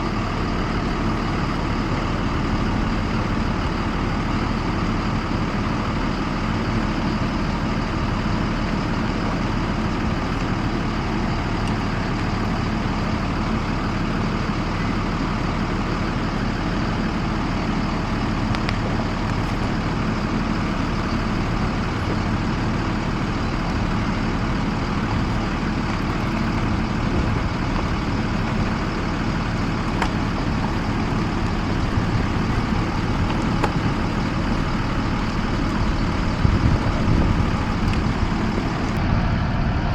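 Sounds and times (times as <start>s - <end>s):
bus engine idling: 0.0s - 39.9s.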